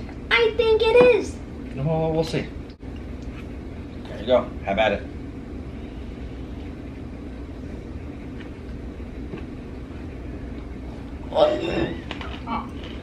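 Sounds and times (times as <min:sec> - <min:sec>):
low room noise rumble: 0:00.0 - 0:13.0.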